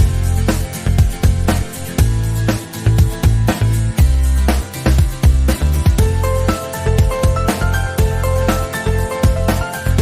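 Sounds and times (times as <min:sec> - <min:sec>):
upbeat pop music: 0:00.0 - 0:10.0.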